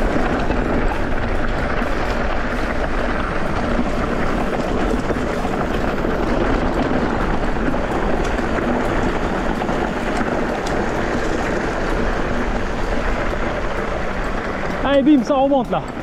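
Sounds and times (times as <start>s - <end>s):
wind on microphone: 0.0s - 15.0s
bike rattling: 0.0s - 16.0s.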